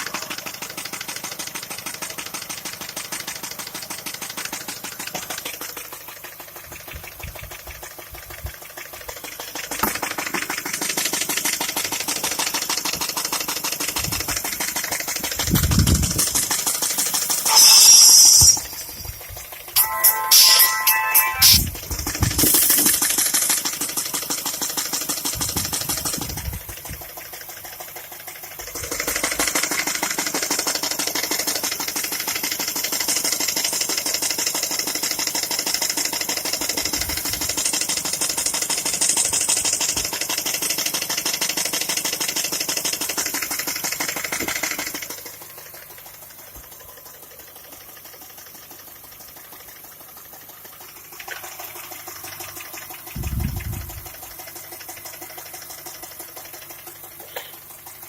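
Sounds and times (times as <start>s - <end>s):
car engine running: 0.0s - 58.0s
metallic engine knocking: 0.0s - 58.0s.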